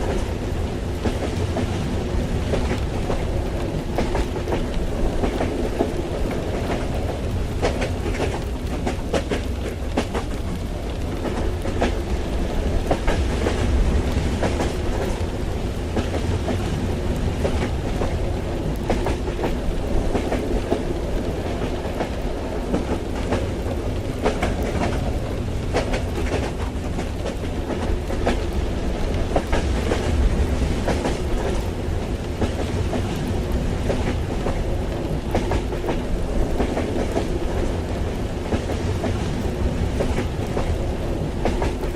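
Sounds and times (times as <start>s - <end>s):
train rumble: 0.0s - 41.9s.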